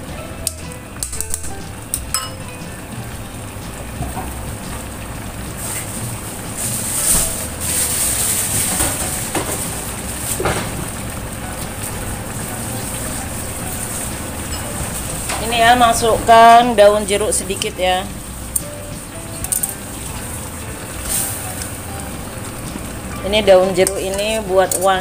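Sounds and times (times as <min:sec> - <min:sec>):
stew bubbling and hissing: 0:01.5 - 0:25.0.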